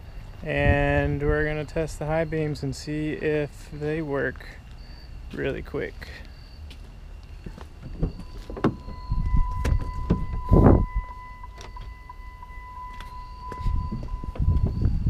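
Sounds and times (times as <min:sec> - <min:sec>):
vehicle warning chime beeps: 0:00.0 - 0:15.0.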